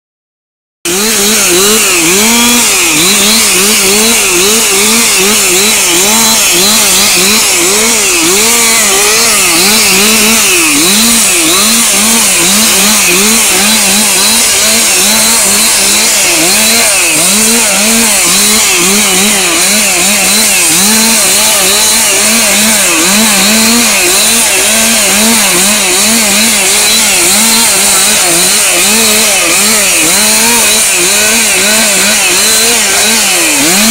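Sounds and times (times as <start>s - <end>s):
chainsaw revving in bursts: 0.8s - 33.9s.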